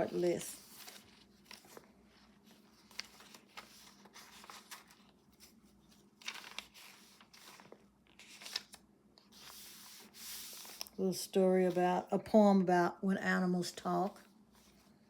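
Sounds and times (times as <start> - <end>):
paper pages rustling: 0.0 - 12.1, 14.0 - 15.0.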